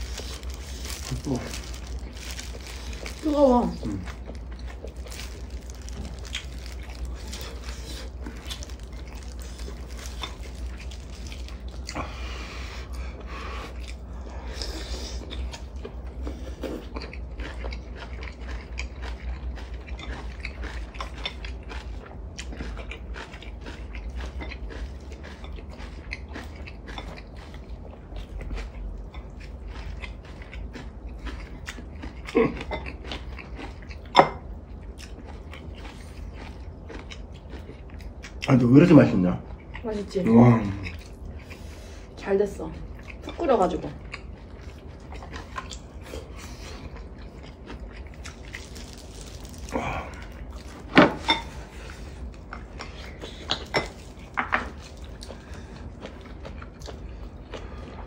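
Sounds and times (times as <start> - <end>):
people chewing: 0.0 - 58.0.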